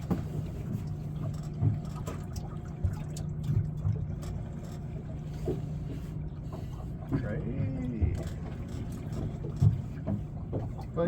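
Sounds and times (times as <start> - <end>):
knocks and thuds on boat: 0.0 - 5.7, 6.5 - 11.0
boat motor hum: 0.0 - 11.0.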